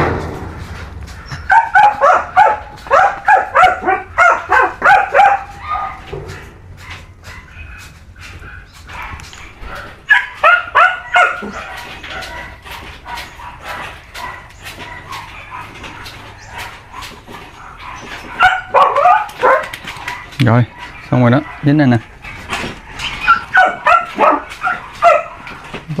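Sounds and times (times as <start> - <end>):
small dogs yipping: 1.1 - 26.0.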